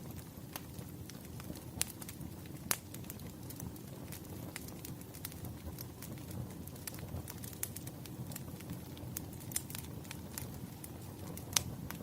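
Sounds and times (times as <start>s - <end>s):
fire crackling and popping: 0.0s - 12.0s
fire rumbling: 0.0s - 12.0s.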